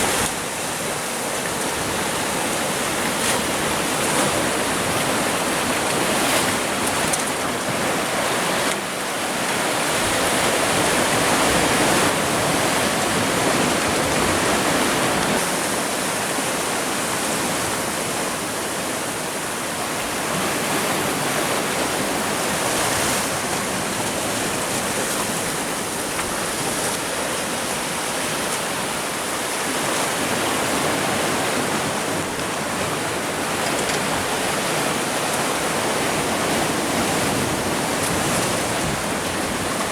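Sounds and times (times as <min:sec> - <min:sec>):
surf washing against rocks: 0:00.0 - 0:39.9.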